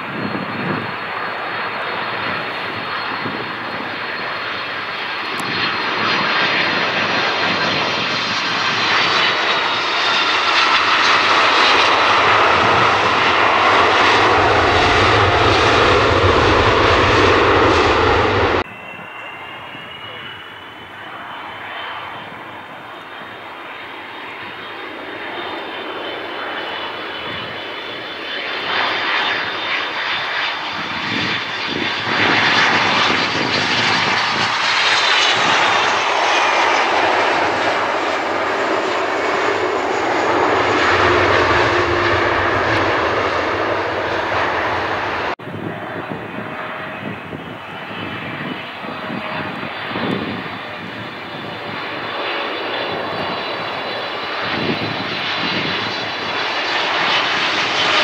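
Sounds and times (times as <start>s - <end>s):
jet airliner landing: 0.0s - 58.0s
jet airliner whining on approach: 0.0s - 58.0s.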